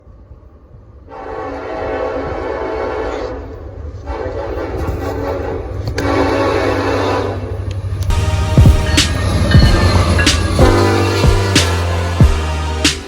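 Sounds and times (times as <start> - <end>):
locomotive air horn blasts: 1.1 - 9.9, 10.6 - 13.0.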